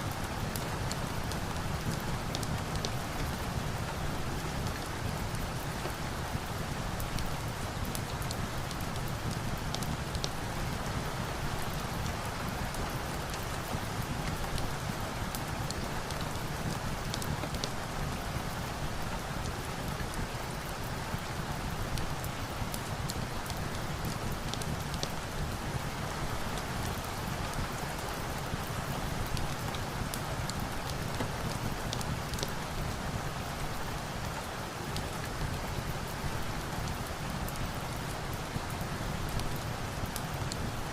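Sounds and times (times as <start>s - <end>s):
rain pouring down: 0.0s - 40.9s
log fire crackles: 0.2s - 40.9s.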